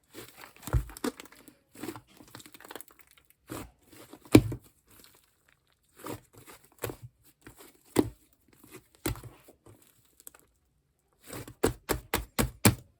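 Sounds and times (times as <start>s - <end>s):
slime crackling squishes: 0.0s - 12.6s.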